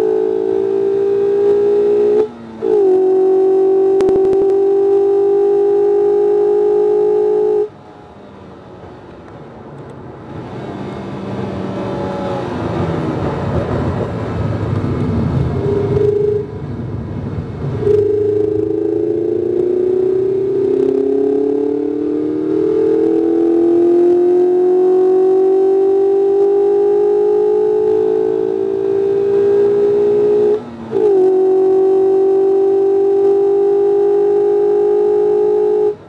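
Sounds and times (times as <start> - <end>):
car engine revving high: 0.0 - 8.7, 10.2 - 36.0
road noise: 0.0 - 36.0.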